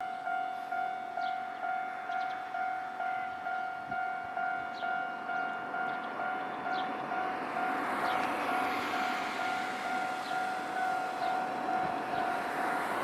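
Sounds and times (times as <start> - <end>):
approaching train rumble: 0.0 - 13.0.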